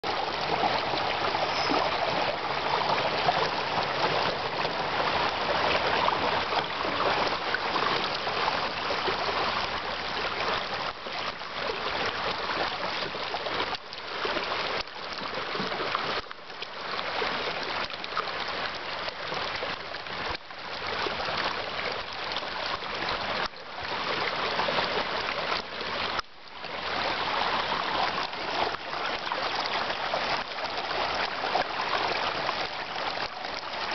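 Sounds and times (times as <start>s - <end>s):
river water rushing over rocks: 0.0s - 33.9s.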